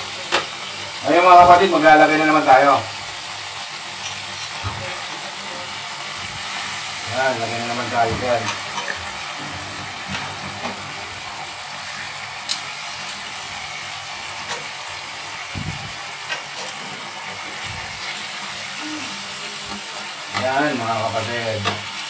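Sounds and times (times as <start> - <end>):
chicken sizzling in a frying pan: 0.0 - 22.0.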